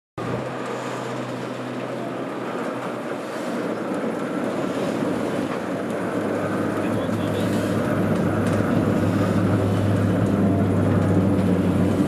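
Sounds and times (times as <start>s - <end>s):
broad rushing noise: 0.2s - 12.0s
diesel locomotive engine hum: 0.2s - 12.0s.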